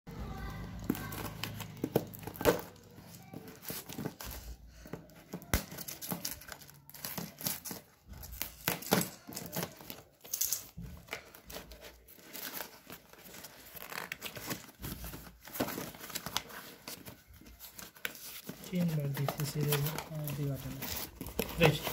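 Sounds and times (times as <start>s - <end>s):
packaging tearing and crinkling: 0.6s - 4.4s, 5.3s - 21.9s.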